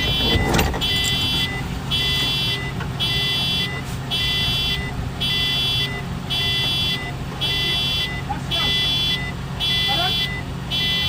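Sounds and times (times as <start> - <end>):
electronic warning beeper: 0.0 - 11.0.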